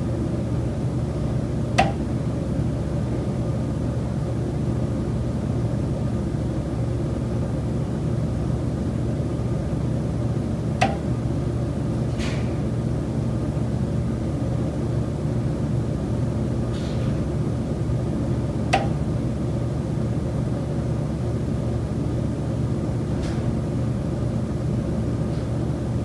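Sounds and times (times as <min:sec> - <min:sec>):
low mechanical hum and rumble: 0:00.0 - 0:26.0.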